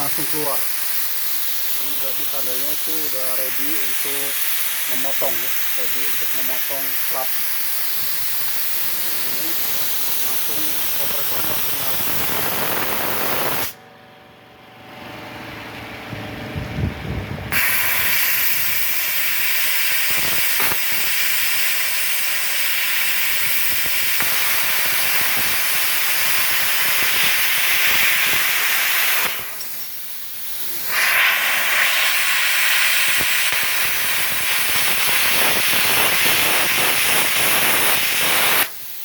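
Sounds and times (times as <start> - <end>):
plasma cutter hissing: 0.0 - 13.8, 17.5 - 39.0.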